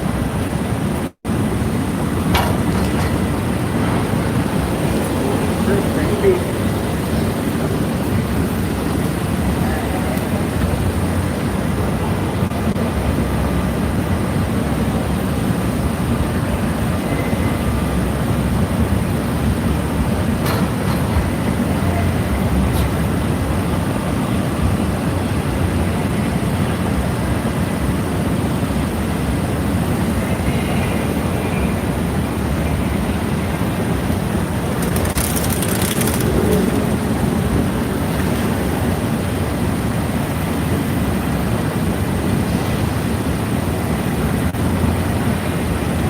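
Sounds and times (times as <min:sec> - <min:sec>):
low vehicle rumble: 0:00.0 - 0:27.1, 0:28.6 - 0:45.9.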